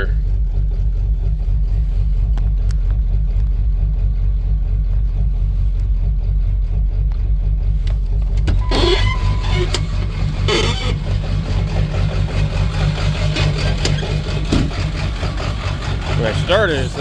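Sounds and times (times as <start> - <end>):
diesel engine idling unevenly: 0.0 - 17.0.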